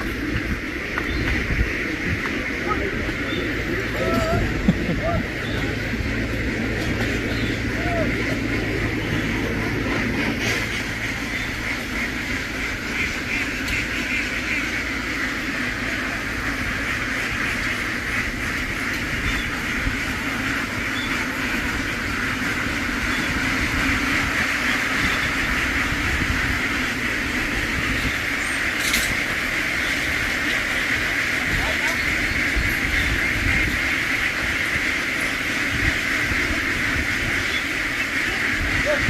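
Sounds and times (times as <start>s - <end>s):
flock of ducks quacking: 0.0s - 39.0s
low steady rumble: 0.0s - 39.0s.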